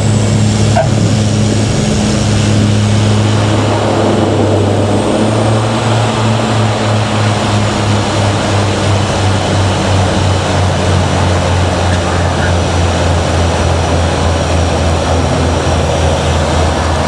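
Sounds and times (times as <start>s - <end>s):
propeller engines droning: 0.0s - 17.0s.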